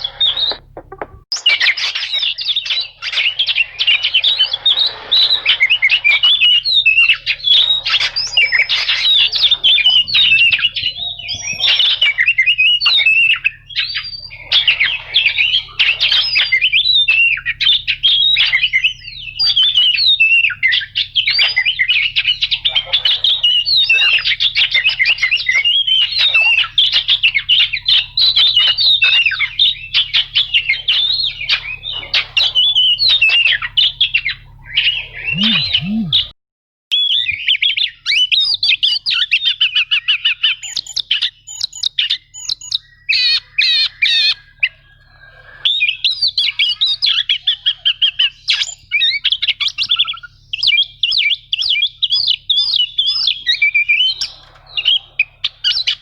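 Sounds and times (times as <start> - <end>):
bird singing chattering phrases: 0.0 - 36.3, 38.4 - 56.0.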